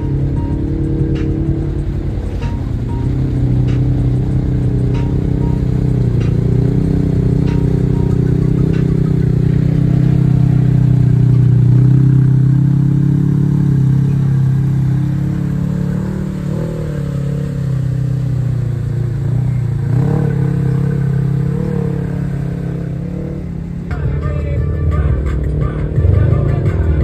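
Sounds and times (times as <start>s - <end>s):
utility vehicle engine revving: 0.0s - 27.0s.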